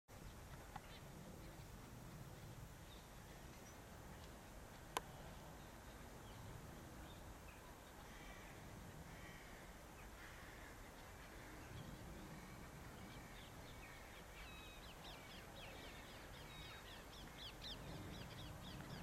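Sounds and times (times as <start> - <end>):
low background rumble: 0.3 - 19.0.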